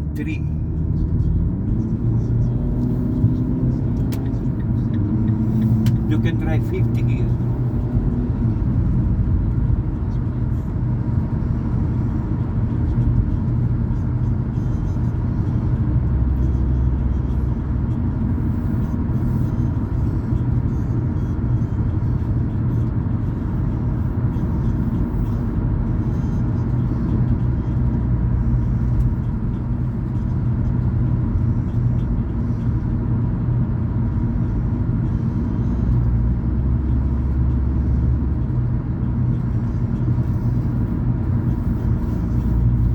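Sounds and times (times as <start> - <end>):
car engine and tyre rumble: 0.0 - 42.9.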